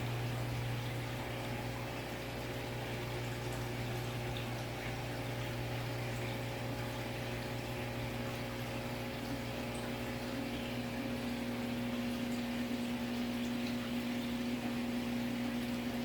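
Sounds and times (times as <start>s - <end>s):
aquarium pump humming: 0.0s - 16.0s
circulating water: 0.0s - 16.0s.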